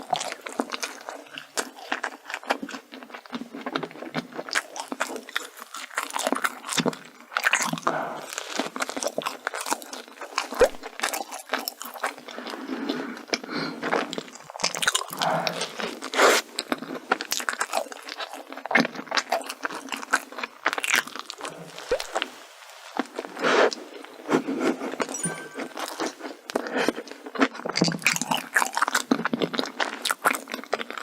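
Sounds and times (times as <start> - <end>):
crunchy food crunching: 0.0 - 25.3, 26.0 - 31.0
chewing: 0.0 - 31.0.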